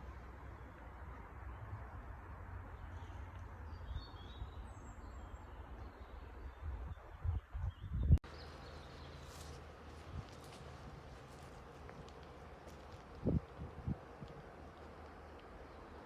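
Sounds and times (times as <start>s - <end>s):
small birds chirping: 2.6s - 16.0s.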